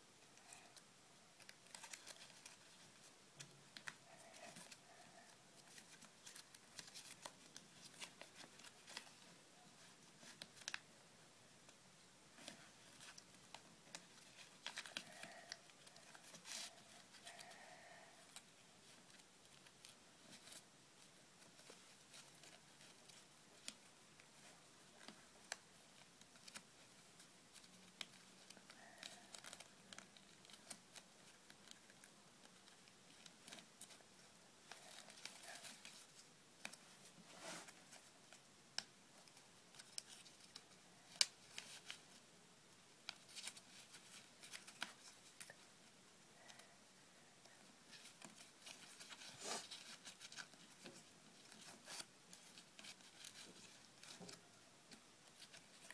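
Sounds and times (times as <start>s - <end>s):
paper rustling and crinkling: 1.4s - 10.9s, 12.3s - 42.2s, 43.0s - 45.7s, 47.5s - 55.9s.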